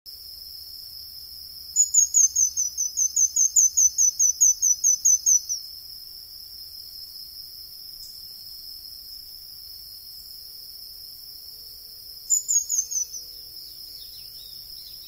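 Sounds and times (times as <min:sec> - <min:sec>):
high insect drone: 0:00.1 - 0:15.0.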